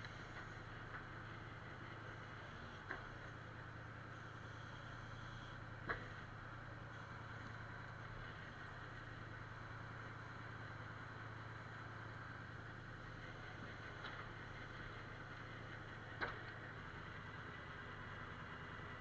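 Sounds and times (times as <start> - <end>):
engine humming steadily: 0.0 - 19.0.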